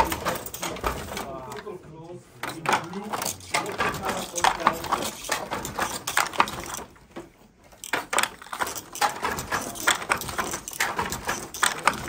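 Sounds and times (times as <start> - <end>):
wooden hand loom clacking: 0.0 - 1.7, 2.4 - 12.0.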